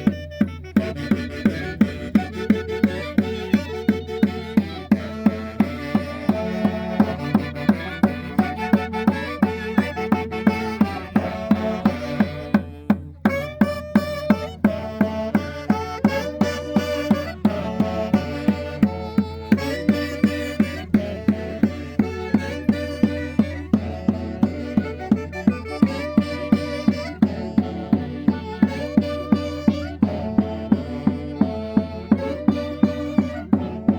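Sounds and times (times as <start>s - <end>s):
folk band playing: 0.0s - 33.9s.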